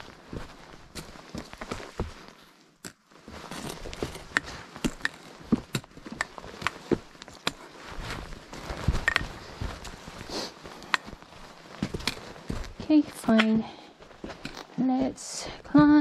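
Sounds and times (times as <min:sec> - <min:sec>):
footsteps crunching on trail: 0:00.0 - 0:16.0.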